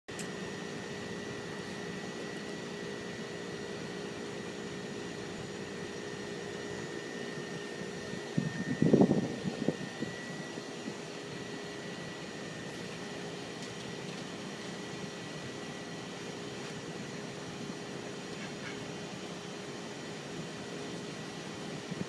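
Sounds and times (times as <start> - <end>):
machine humming and whining: 0.1 - 22.0.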